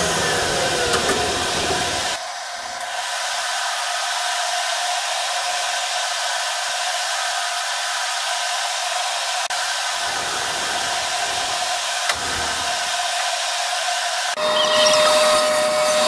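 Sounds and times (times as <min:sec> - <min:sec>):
blower rushing air: 0:00.0 - 0:16.0.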